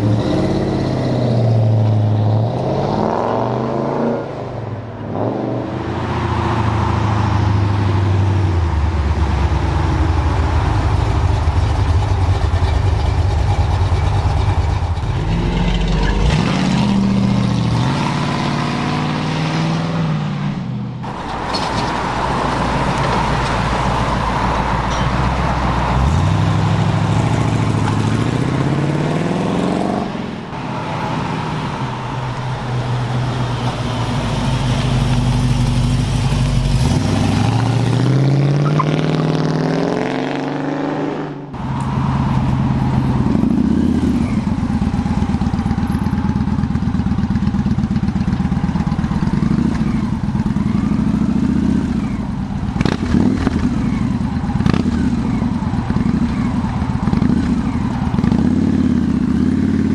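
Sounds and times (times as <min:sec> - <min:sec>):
car engine revving: 0:08.9 - 0:59.9.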